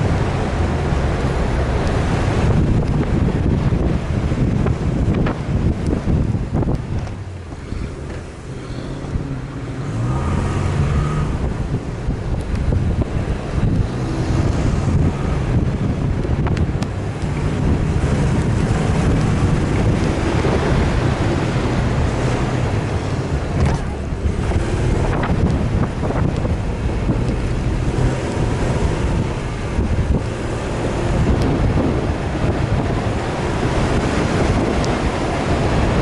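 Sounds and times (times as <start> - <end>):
vehicle engine driving: 0.0 - 36.0
wind noise on microphone: 0.0 - 36.0.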